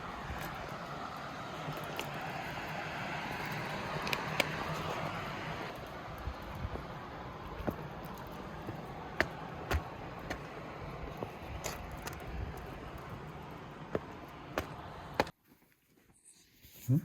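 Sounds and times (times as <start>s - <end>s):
distant traffic hiss: 0.0s - 15.3s.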